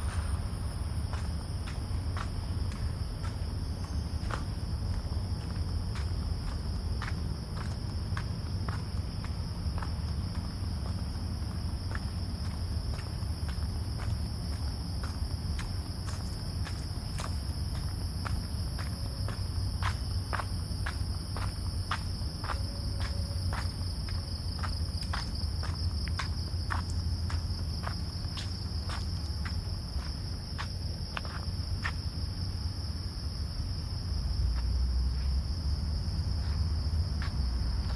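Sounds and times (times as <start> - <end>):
footsteps on a paved path: 0.0 - 37.9
night insects trilling: 0.0 - 37.9.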